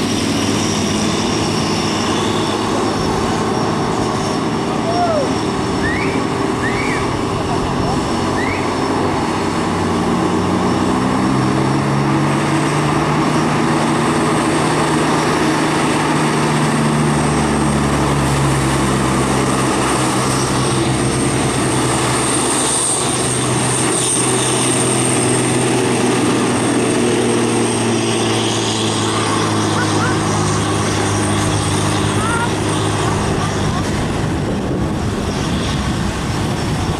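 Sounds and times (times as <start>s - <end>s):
diesel truck engine labouring: 0.0s - 36.9s.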